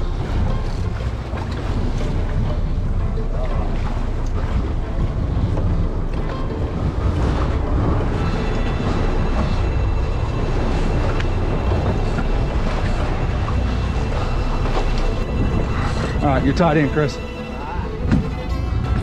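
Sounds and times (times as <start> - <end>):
boat engine running: 0.0 - 19.0
water rushing past hull: 0.0 - 19.0.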